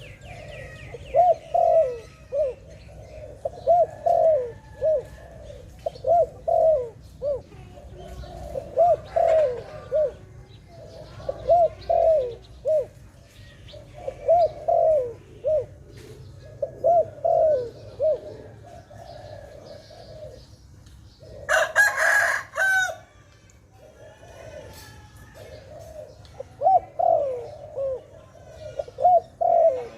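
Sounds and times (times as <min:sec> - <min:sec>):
dove cooing: 0:00.0 - 0:23.2, 0:23.8 - 0:29.9.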